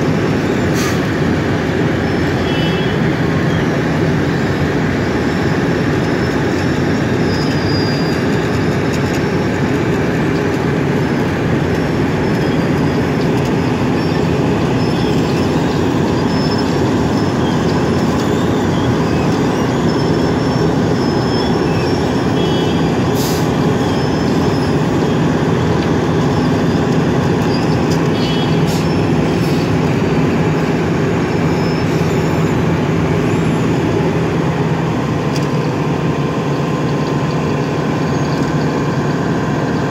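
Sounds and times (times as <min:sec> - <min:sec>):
milling machine grinding asphalt: 0:00.0 - 0:39.9.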